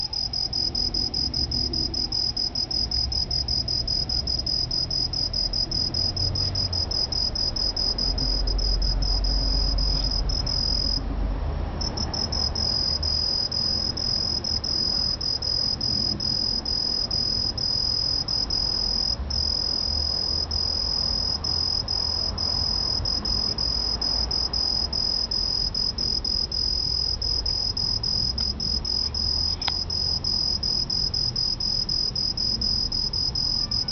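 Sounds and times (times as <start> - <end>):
tree cricket trilling: 0.0 - 11.1, 11.8 - 33.9.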